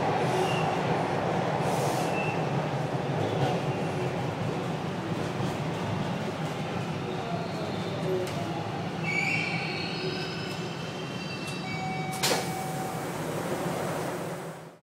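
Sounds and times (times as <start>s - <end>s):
subway train rumble: 0.0s - 14.8s.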